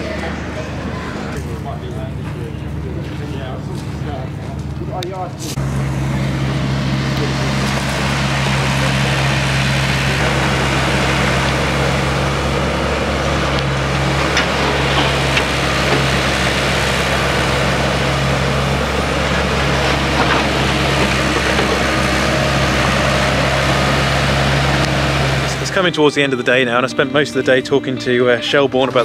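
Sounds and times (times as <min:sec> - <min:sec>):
excavator diesel engine humming: 0:00.0 - 0:29.0.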